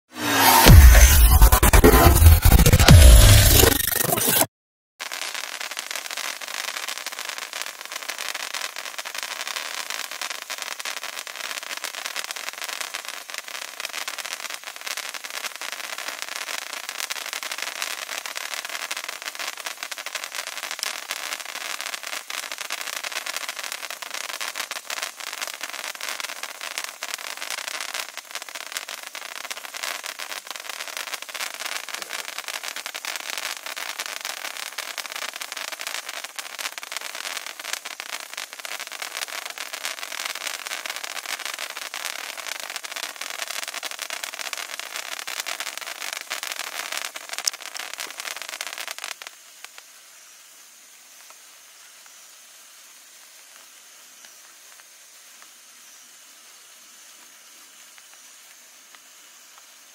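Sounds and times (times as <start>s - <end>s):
sparkler hissing and crackling: 0.2s - 4.4s, 5.0s - 59.9s.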